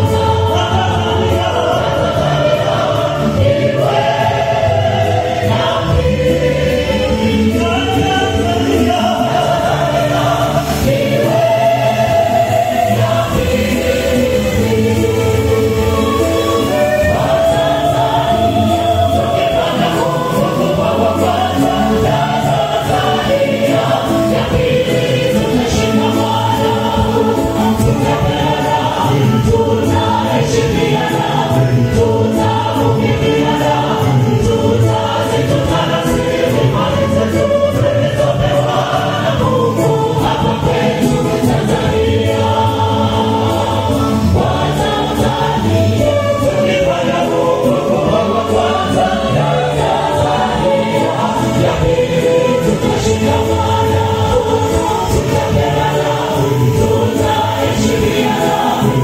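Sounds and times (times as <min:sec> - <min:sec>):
mixed choir singing gospel: 0:00.0 - 0:59.0.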